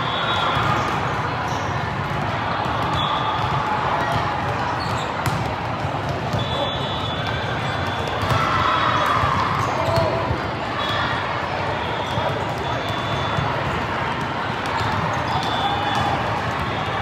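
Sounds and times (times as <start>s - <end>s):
many indistinct voices: 0.0s - 17.0s
volleyballs hit and bouncing: 0.0s - 17.0s.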